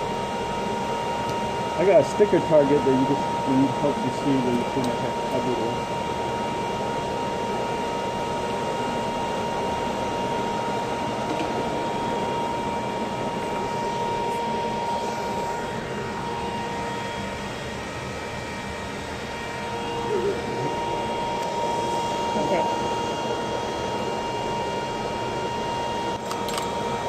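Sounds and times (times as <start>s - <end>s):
ventilation rushing with whine: 0.0s - 27.0s.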